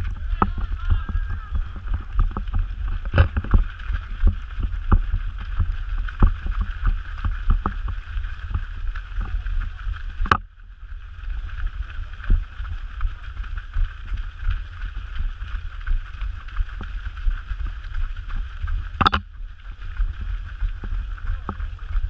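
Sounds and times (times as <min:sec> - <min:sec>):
running footsteps on gravel: 0:00.0 - 0:22.0
wind rumble on microphone: 0:00.0 - 0:22.0.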